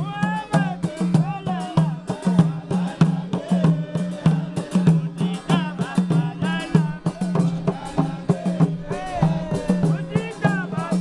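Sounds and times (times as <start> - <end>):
quick drum beat: 0.0 - 11.0
voices singing: 0.0 - 11.0.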